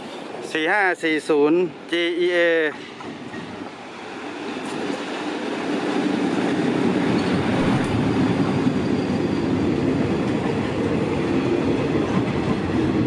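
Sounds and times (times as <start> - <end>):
train coaches rumbling on rails: 0.0 - 13.0
diesel locomotive engine passing: 1.7 - 13.0.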